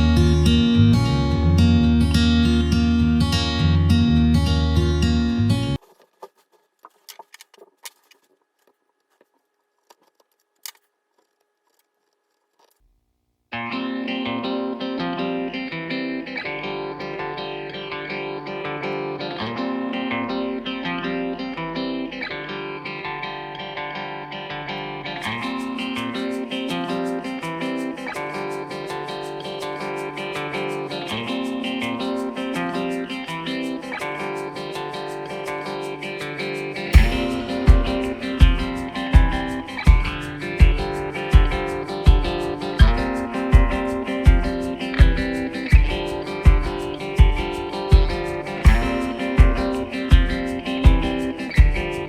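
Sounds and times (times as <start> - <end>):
plucked guitar playing: 0.0 - 5.8, 13.5 - 52.0.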